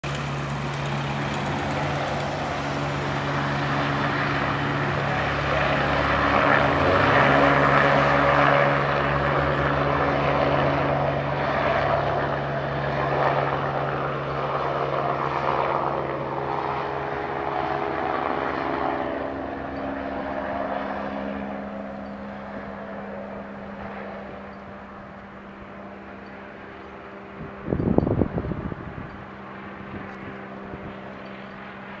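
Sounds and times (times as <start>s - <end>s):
helicopter rotor beat: 0.0s - 32.0s
helicopter turbine whine: 0.0s - 32.0s.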